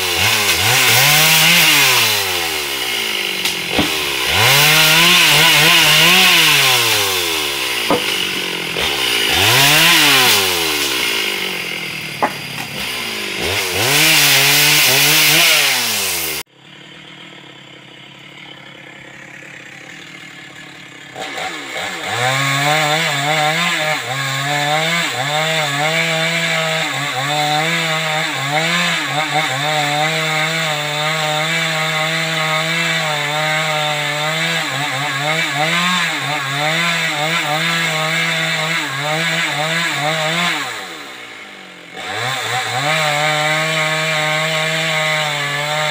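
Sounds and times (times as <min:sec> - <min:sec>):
chainsaw cutting wood revving: 0:00.0 - 0:45.9.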